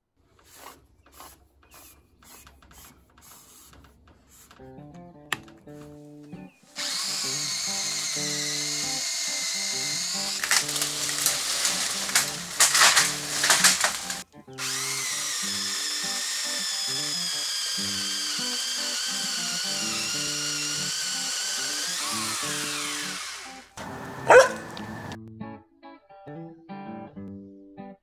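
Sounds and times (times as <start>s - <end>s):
electric saw cutting branch: 0.3s - 25.2s.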